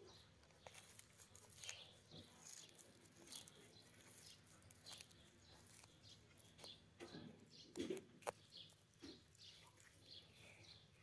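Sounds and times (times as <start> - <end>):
tortoise chewing a leaf: 0.0 - 11.0.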